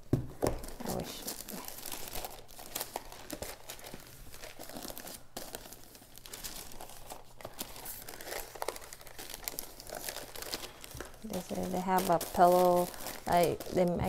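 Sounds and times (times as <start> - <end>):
tissue paper crinkling: 0.6 - 14.0.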